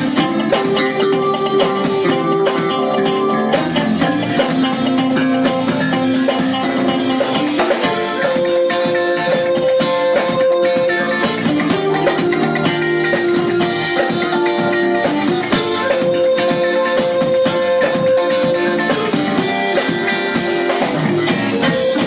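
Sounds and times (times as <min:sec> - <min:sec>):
busy drumming: 0:00.0 - 0:22.0
jazz fusion band playing: 0:00.0 - 0:22.0.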